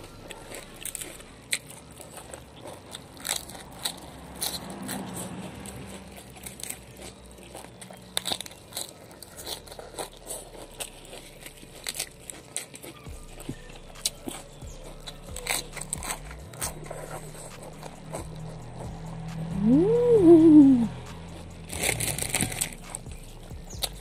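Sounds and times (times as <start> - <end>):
crunching raw lettuce: 0.0 - 24.0.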